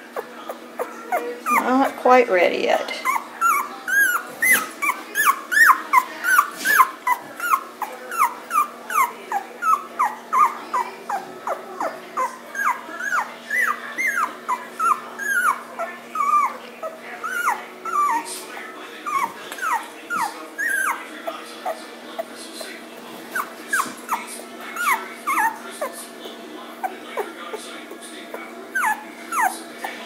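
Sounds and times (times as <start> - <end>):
puppy crying: 0.0 - 22.4, 23.3 - 30.0.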